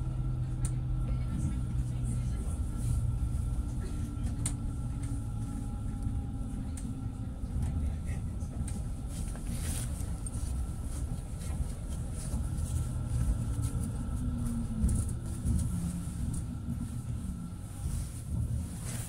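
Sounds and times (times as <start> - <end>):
tram rumbling: 0.0 - 19.0.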